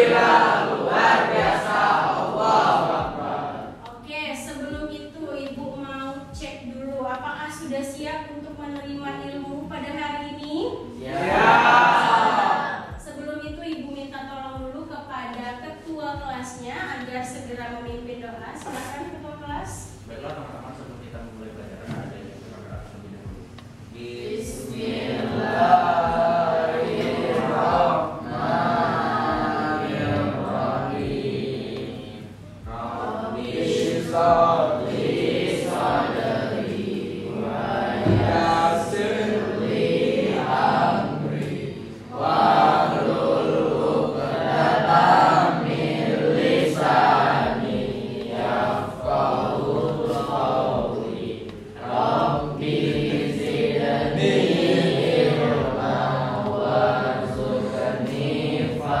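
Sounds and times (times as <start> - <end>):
students chanting in unison: 0.0 - 6.8, 10.8 - 13.5, 18.6 - 59.0.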